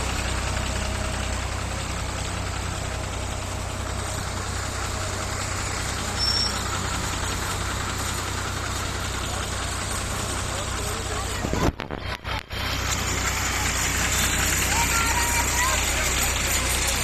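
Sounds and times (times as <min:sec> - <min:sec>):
traffic noise: 0:00.0 - 0:17.0
vehicles idling: 0:00.0 - 0:17.0.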